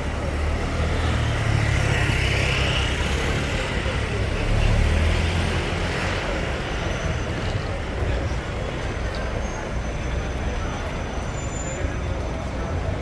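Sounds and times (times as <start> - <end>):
vehicles passing by: 0.0 - 13.0.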